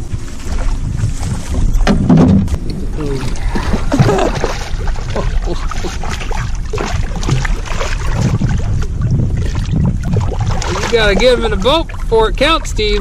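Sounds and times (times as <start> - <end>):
fish thrashing and splashing: 0.0 - 13.0.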